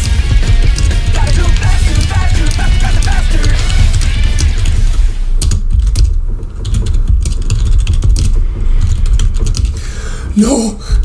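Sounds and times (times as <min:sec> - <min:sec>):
fast keyboard typing: 0:00.0 - 0:10.1.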